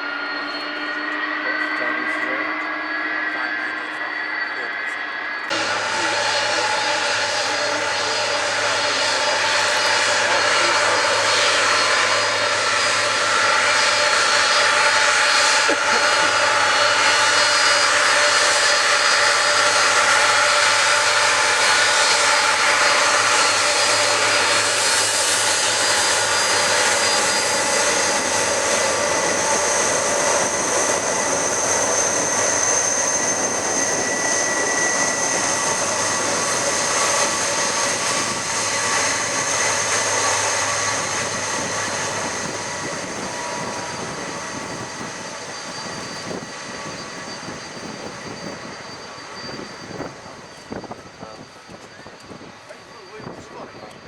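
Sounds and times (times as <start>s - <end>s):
high engine whine: 0.0s - 54.0s
jet engines running: 0.0s - 54.0s.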